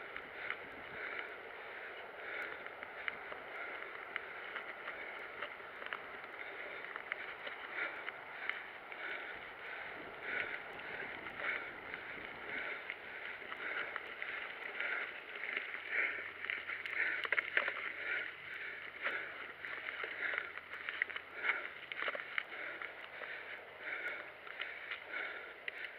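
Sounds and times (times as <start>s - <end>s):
bike tyres on dirt trail: 0.0s - 25.9s.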